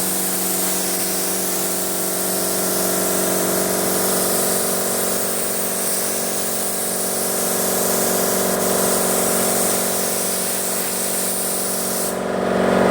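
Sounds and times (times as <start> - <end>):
spray gun hissing: 0.0 - 12.2.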